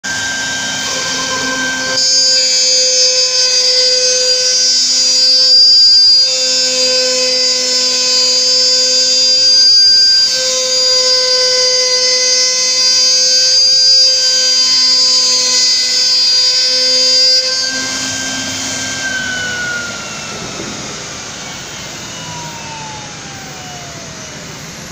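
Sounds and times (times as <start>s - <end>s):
router spindle whining: 0.0s - 24.9s.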